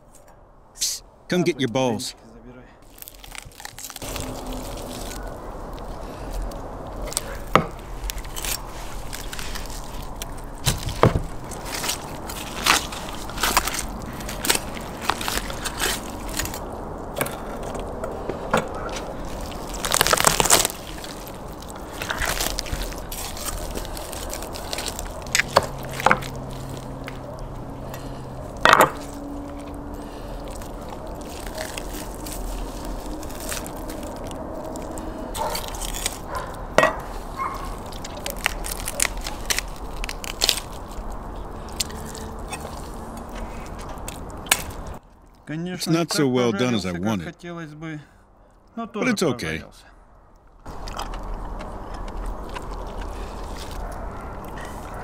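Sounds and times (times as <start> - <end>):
bones and crisp skin crunching: 2.8 - 45.5, 50.3 - 55.0.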